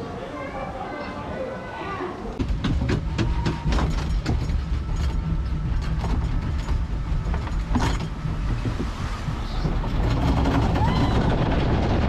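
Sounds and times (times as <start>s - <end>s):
lift conveyor rumble: 2.3s - 12.0s.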